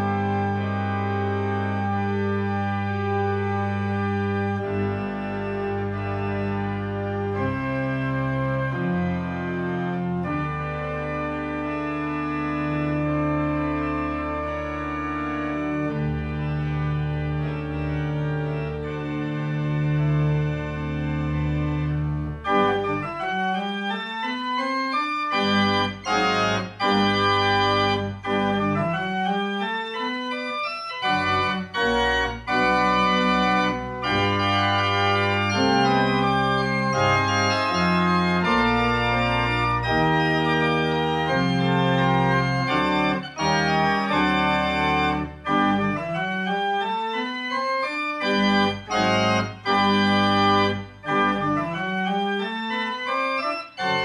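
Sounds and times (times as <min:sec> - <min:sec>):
church organ playing: 0:00.0 - 0:54.0.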